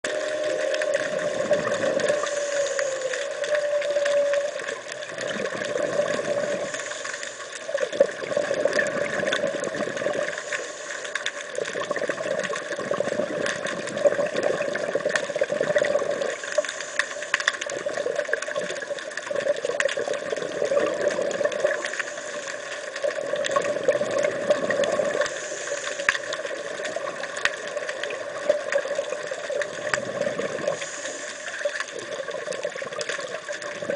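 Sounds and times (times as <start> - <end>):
underwater bubbles gurgling: 0.0 - 33.9.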